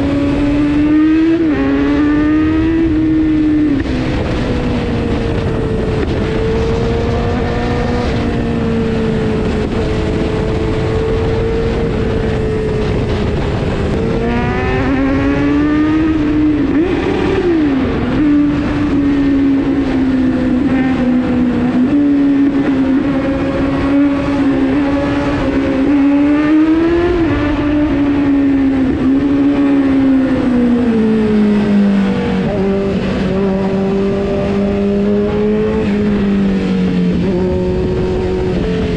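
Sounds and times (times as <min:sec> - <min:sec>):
motorcycle engine at high revs: 0:00.0 - 0:38.9
wind rushing: 0:00.0 - 0:38.9.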